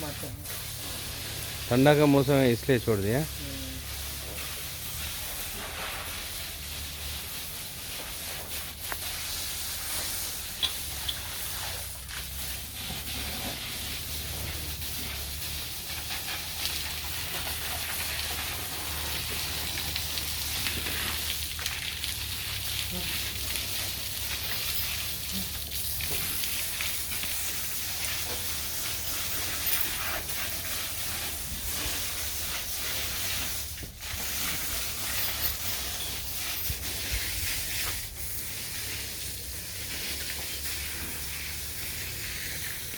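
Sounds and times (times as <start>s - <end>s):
water spraying from hose: 0.0s - 42.9s.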